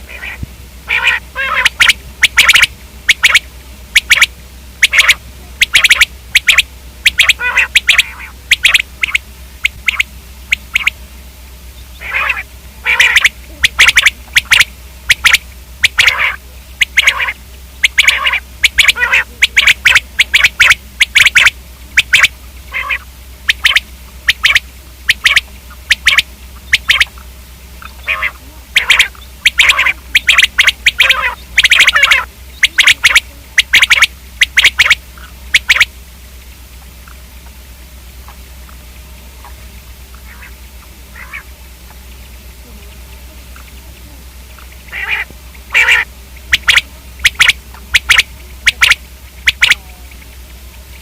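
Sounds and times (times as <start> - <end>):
quail calling: 0.0 - 11.1, 11.7 - 37.6, 38.2 - 50.6
low hum: 0.0 - 51.0.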